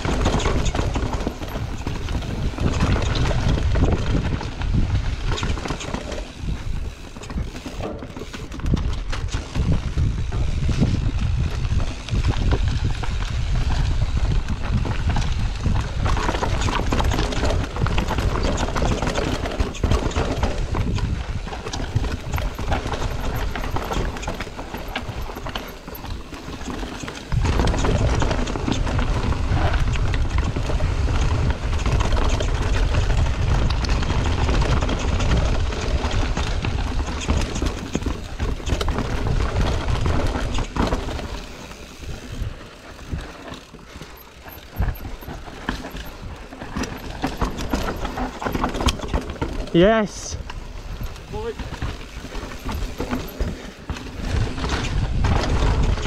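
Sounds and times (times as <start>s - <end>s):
bike clattering: 0.0s - 56.0s
bike tyres rattling over rocks: 0.0s - 56.0s
wind rumble on microphone: 0.0s - 56.0s.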